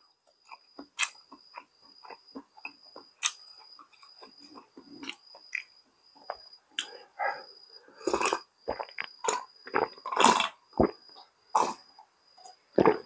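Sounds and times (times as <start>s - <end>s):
person chewing food: 0.3s - 7.0s, 7.9s - 11.8s.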